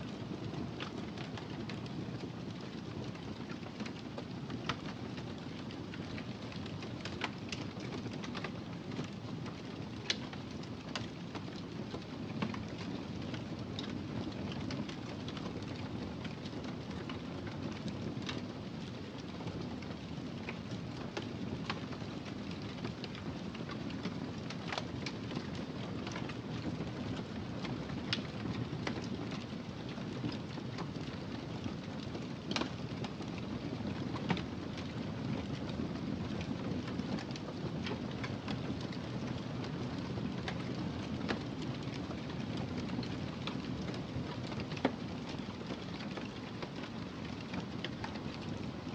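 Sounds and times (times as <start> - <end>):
fireplace fire crackling: 0.0 - 48.9.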